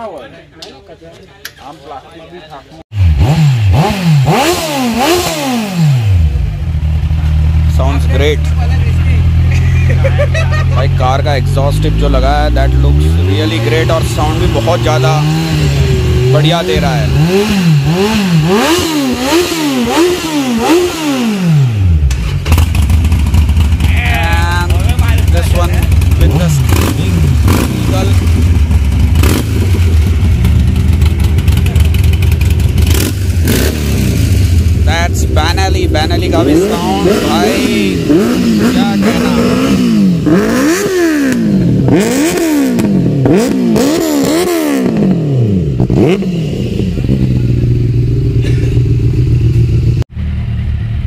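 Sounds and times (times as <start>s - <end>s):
motorcycle engine revving: 2.9s - 51.0s.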